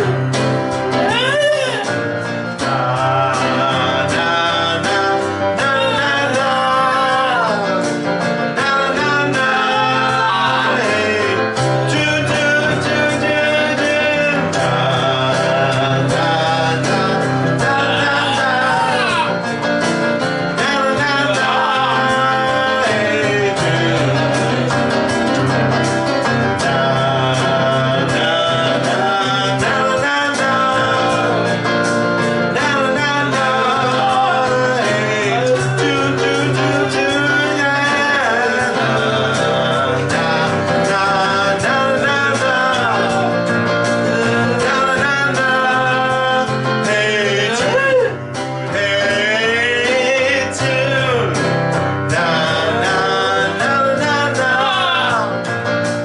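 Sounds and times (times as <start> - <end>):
person singing: 0.0 - 55.8
guitar accompaniment: 0.0 - 56.0.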